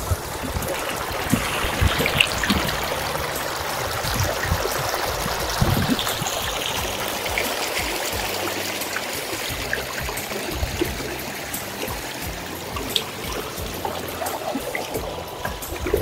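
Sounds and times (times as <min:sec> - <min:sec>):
floodwater rushing and splashing: 0:00.0 - 0:16.0.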